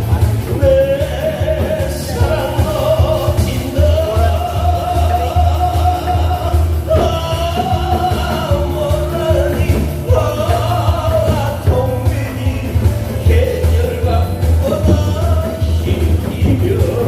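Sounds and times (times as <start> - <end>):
backing track with pounding bass: 0.0 - 17.0.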